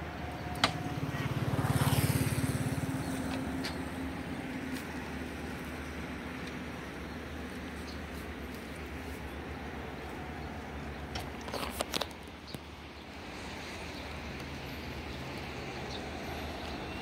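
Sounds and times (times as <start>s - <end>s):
low hum of distant engines: 0.0s - 17.0s.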